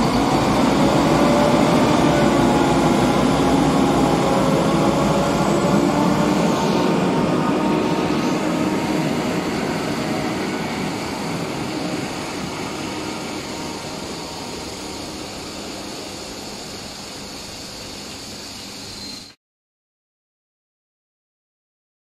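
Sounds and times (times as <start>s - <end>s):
diesel train pulling away: 0.0s - 19.4s.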